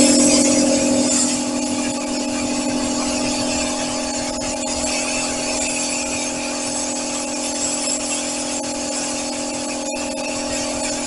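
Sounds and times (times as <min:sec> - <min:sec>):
spray gun hissing: 0:00.0 - 0:10.9
steady hum: 0:00.0 - 0:11.0.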